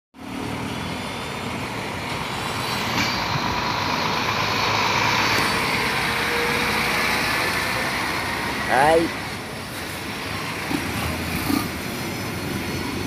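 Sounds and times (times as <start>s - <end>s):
truck engine passing: 0.2s - 13.0s.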